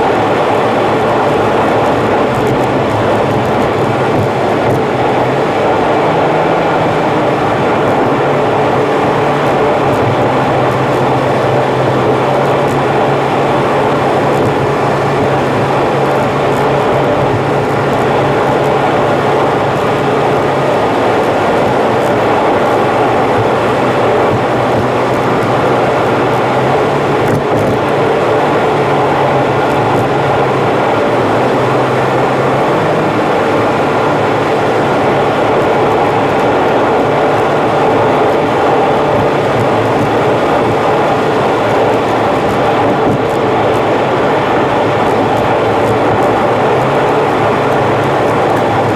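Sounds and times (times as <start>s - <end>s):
sped-up car road noise: 0.0s - 48.9s.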